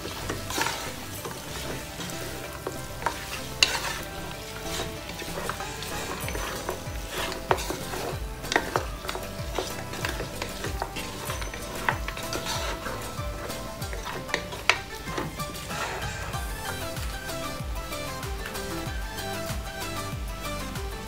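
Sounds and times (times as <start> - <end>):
food sizzling in a pot: 0.0 - 21.0
wooden spatula stirring and scraping: 0.0 - 21.0.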